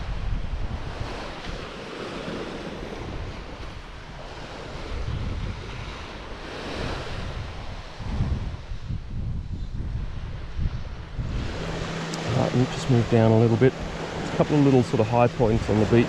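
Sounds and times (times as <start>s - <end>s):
small waves breaking on sand: 0.0s - 8.9s, 9.9s - 16.0s
wind buffeting microphone: 0.0s - 16.0s.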